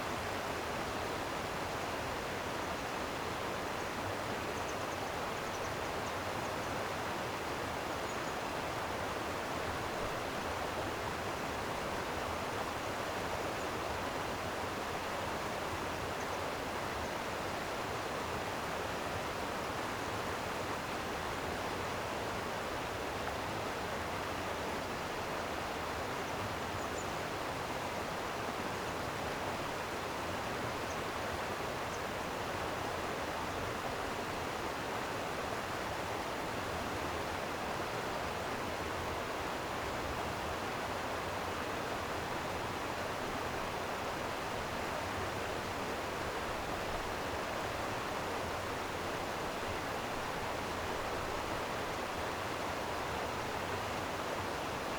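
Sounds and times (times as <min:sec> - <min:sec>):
stream water flowing: 0:00.0 - 0:54.9.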